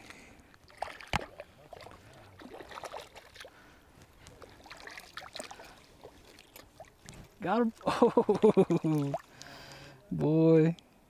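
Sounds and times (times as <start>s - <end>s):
lake water splashing at shore: 0.6s - 9.7s.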